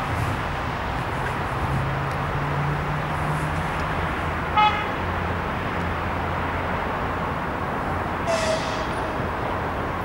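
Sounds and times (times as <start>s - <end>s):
distant traffic rumble: 0.0s - 10.0s.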